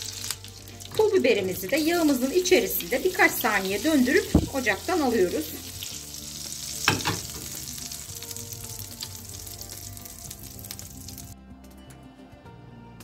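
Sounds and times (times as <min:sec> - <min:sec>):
butter sizzling in frying pan: 0:00.0 - 0:11.4.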